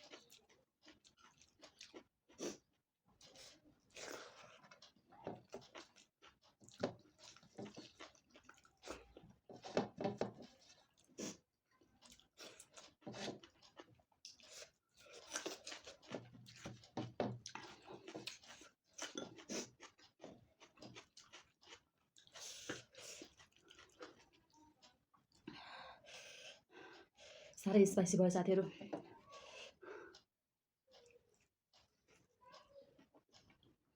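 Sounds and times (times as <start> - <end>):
chewing food: 0.0 - 27.6, 28.8 - 33.9.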